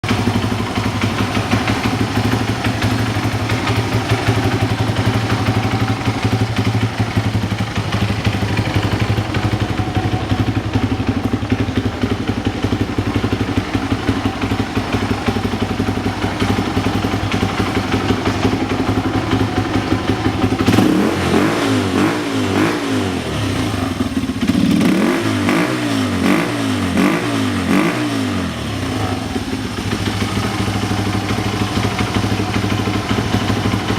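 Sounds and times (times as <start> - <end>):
motorcycle engine idling: 0.0 - 33.9
engine revving blips: 0.1 - 29.3.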